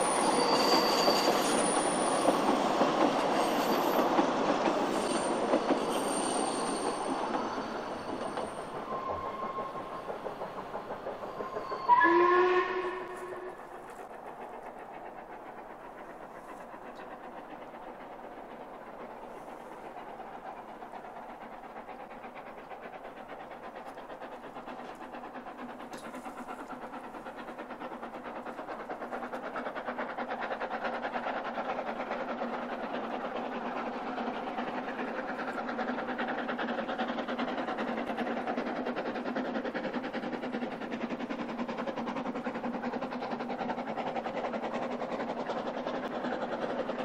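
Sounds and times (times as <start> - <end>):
steam locomotive working: 0.0 - 47.0.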